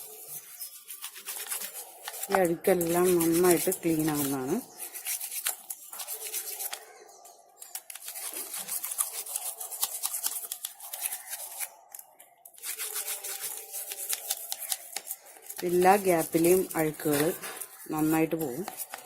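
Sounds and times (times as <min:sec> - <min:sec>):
toothbrush scrubbing jar: 0:00.0 - 0:06.8, 0:07.8 - 0:11.7, 0:12.6 - 0:19.0.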